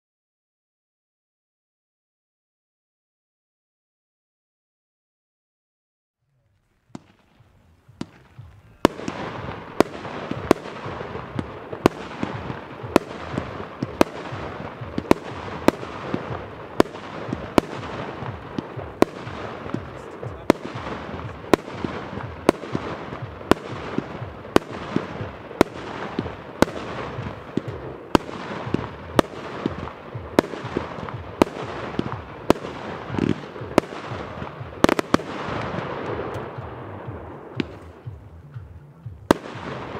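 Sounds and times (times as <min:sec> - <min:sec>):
firework shots: 0:06.6 - 0:39.9
rush of bursting fireworks: 0:06.6 - 0:39.9.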